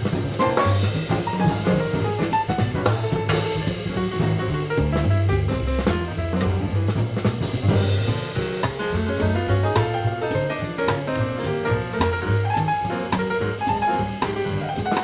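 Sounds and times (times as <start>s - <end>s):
bass line: 0.0s - 14.9s
drum kit: 0.0s - 15.0s
jazz piano: 0.0s - 15.0s.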